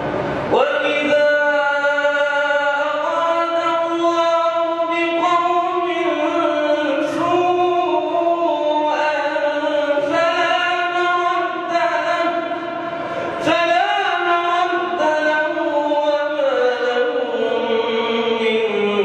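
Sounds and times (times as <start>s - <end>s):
man chanting melodically: 0.5s - 19.0s.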